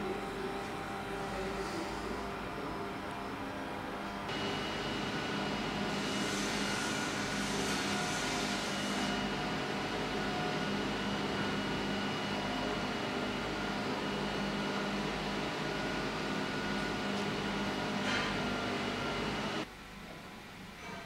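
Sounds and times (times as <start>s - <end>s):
motor or fan humming: 0.0s - 19.7s.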